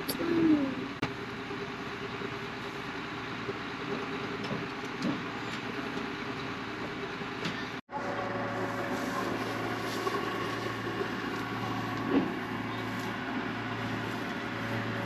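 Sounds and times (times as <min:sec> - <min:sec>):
combine harvester drone: 0:00.0 - 0:15.0.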